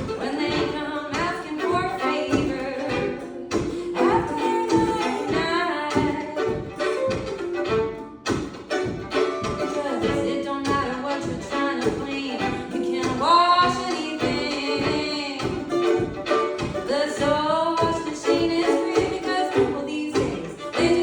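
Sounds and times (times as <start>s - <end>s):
person singing: 0.0s - 7.2s, 9.1s - 21.0s
strummed acoustic strings: 0.0s - 21.0s.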